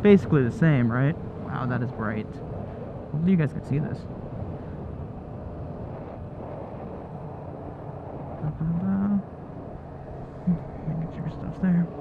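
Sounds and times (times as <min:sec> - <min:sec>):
motorcycle engine rumble: 0:00.0 - 0:12.0
wind and road noise: 0:00.0 - 0:12.0.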